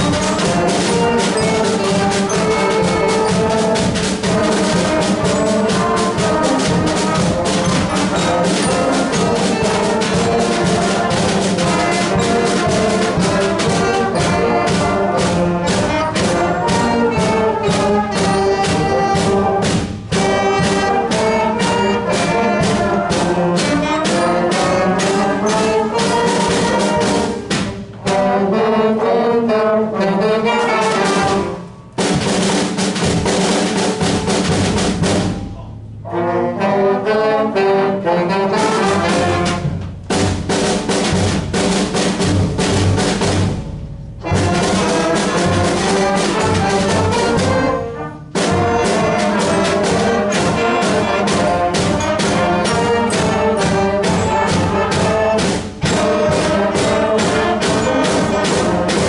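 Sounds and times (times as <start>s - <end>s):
drum beat: 0.0s - 28.6s, 30.6s - 35.7s, 38.6s - 59.0s
school concert band playing: 0.0s - 59.0s.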